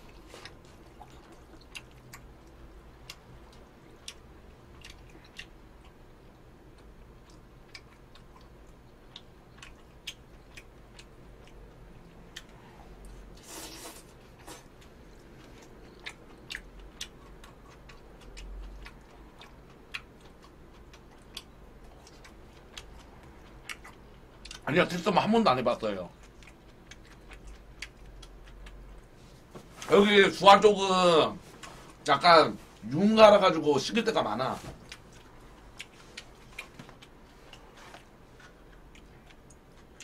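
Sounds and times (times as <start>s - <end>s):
quiet chewing: 0.0s - 25.1s, 25.7s - 29.9s, 31.4s - 32.9s, 34.5s - 40.0s.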